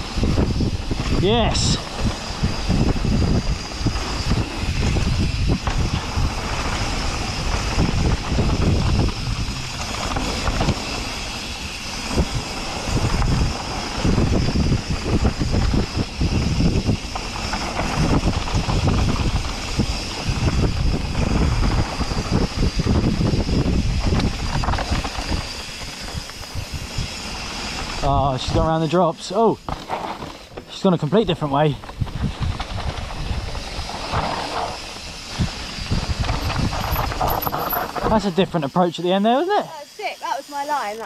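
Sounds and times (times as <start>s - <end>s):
wind buffeting microphone: 0.0s - 29.7s, 30.4s - 39.2s
tyres rolling over dirt trail: 0.0s - 41.0s.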